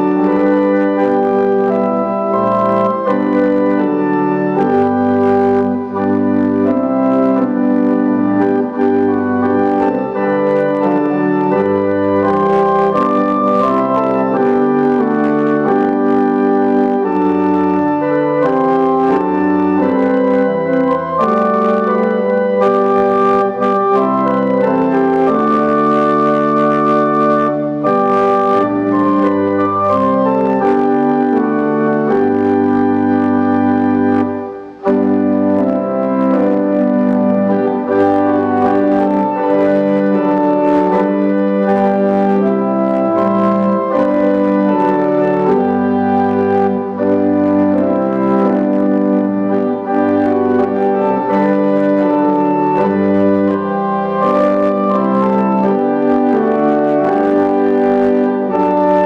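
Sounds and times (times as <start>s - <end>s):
pipe organ playing chords: 0.0s - 59.0s.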